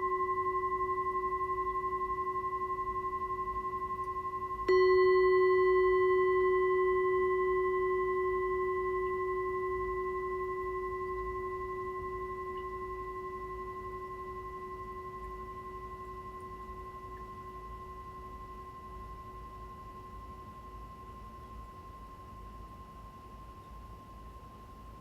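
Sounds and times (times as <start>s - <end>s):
singing bowl ringing: 0.0s - 25.0s.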